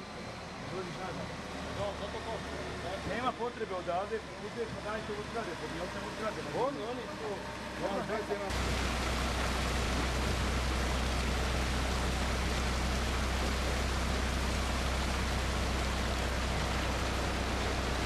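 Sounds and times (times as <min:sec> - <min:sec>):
floodwater splashing from wheels: 0:00.2 - 0:18.0.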